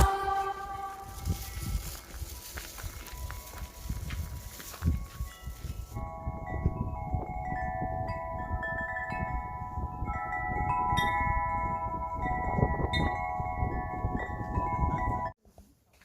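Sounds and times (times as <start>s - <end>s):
wind chimes ringing: 0.0s - 15.4s
wind rumbling on microphone: 0.0s - 15.4s.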